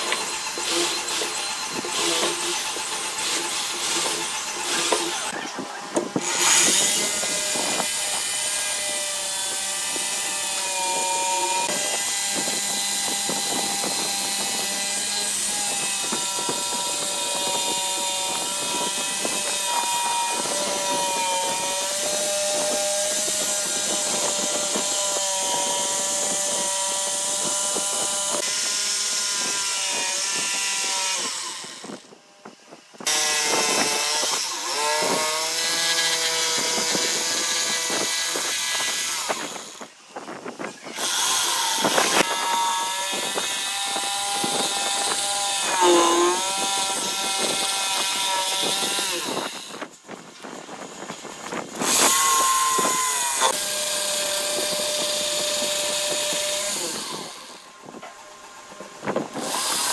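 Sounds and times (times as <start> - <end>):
electric drill boring into wood: 0.0 - 59.9
electric jigsaw cutting wood: 0.0 - 59.9.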